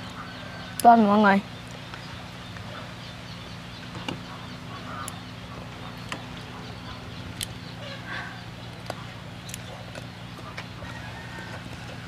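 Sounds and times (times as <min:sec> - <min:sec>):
faint poultry calls: 0:00.0 - 0:12.0
steady low hum: 0:00.0 - 0:12.0.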